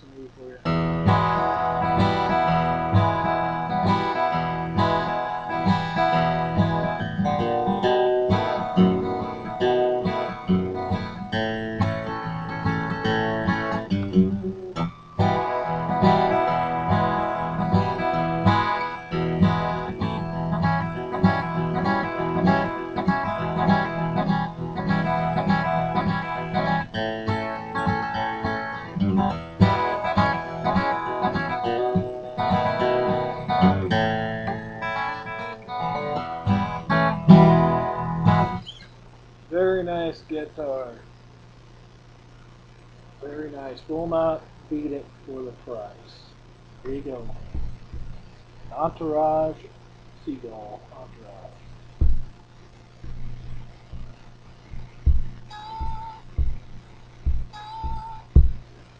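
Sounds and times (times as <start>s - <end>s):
acoustic guitar playing: 0.6s - 38.9s, 46.8s - 49.5s, 51.3s - 58.9s.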